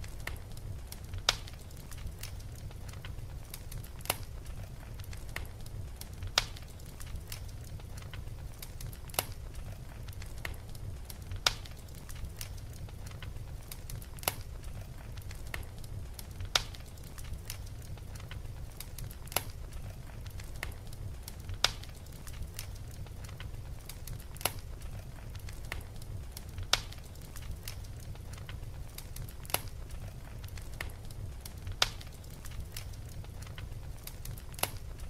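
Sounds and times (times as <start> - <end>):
fire crackling and popping: 0.0 - 35.0.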